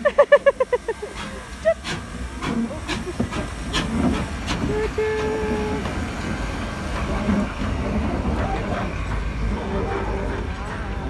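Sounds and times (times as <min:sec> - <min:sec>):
steam hissing: 0:00.0 - 0:11.0
steam locomotive exhaust chuffs: 0:00.0 - 0:11.0.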